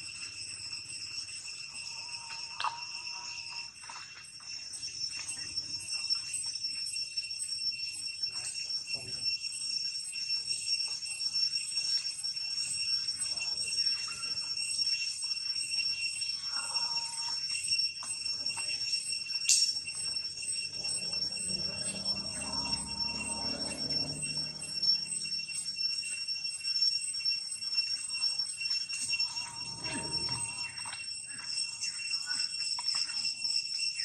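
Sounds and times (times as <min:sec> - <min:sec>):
cicadas droning: 0:00.0 - 0:34.0.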